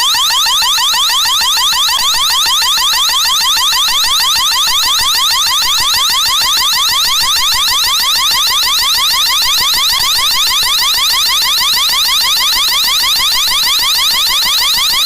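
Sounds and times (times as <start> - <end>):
electronic alarm siren sweeps: 0.0 - 15.0.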